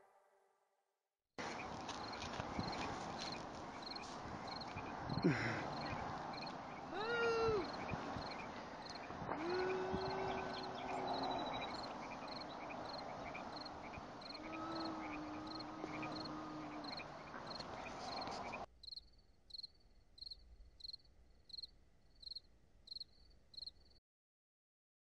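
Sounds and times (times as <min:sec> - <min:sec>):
outdoor ambience hiss: 0:01.4 - 0:24.0
cricket chirping: 0:01.6 - 0:06.8, 0:07.6 - 0:24.0.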